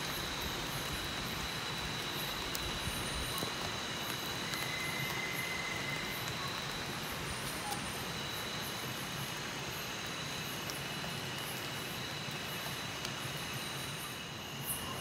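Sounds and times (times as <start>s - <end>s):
light drizzle hissing: 0.0s - 15.0s
night insects calling: 0.0s - 15.0s.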